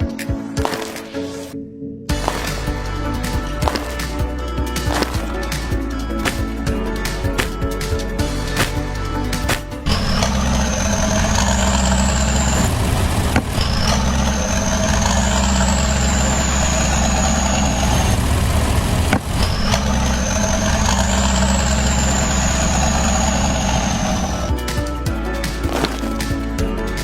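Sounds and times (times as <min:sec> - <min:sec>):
high whine: 0:02.1 - 0:24.6
engine idling: 0:02.1 - 0:26.9.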